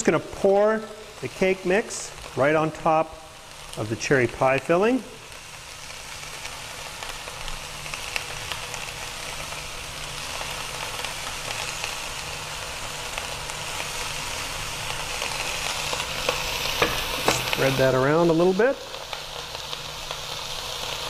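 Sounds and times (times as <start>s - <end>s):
meat and vegetables sizzling in a pot: 0.0s - 21.0s.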